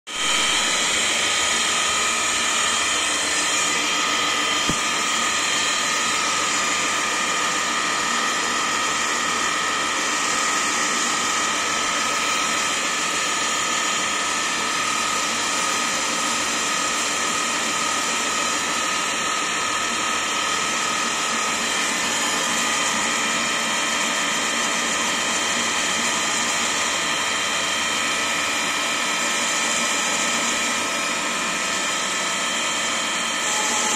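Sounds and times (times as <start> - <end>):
milling machine whine: 0.1 - 33.9.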